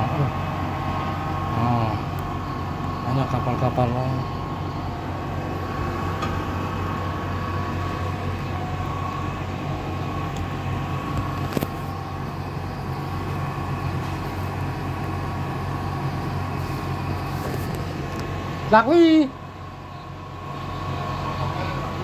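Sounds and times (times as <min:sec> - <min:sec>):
high mechanical whine: 0:00.0 - 0:22.0
machinery humming: 0:00.0 - 0:22.0.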